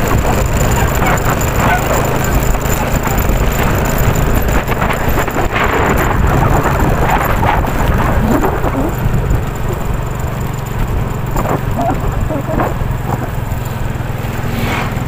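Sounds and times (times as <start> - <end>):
engine running low rumble: 0.0 - 15.0
wind noise on microphone: 0.0 - 15.0.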